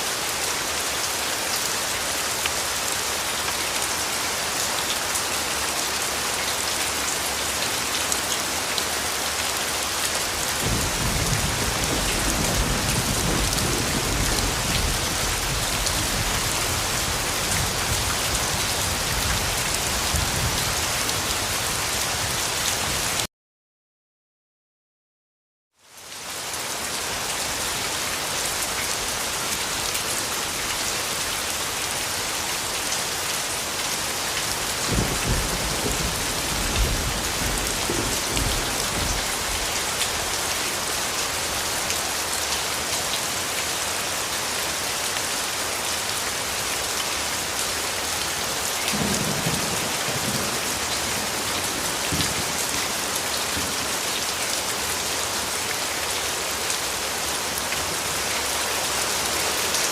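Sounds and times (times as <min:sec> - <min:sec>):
heavy rain falling: 0:00.0 - 0:23.3, 0:25.9 - 0:59.9.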